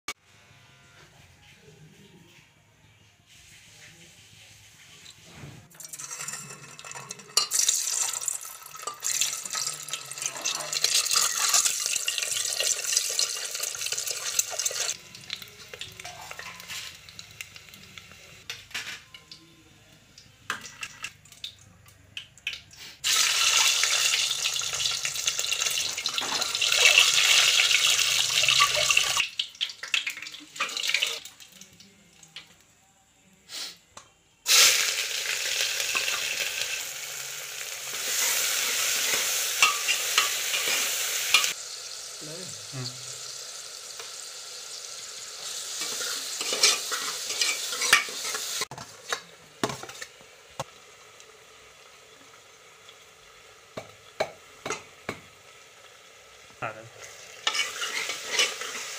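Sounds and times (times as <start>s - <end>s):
eggs sizzling in hot oil: 4.7s - 32.6s, 33.5s - 58.9s.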